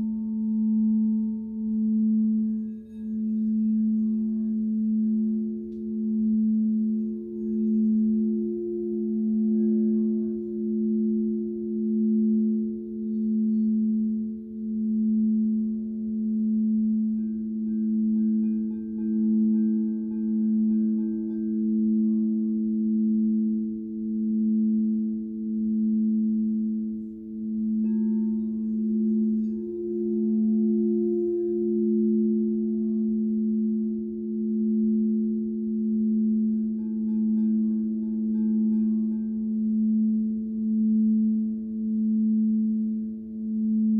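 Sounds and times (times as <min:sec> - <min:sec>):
singing bowls ringing: 0:00.0 - 0:43.9.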